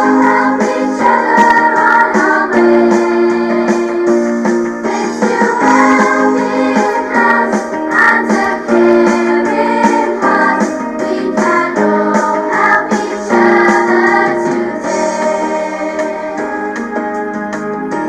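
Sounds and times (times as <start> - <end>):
song with singing and instruments: 0.0 - 18.0.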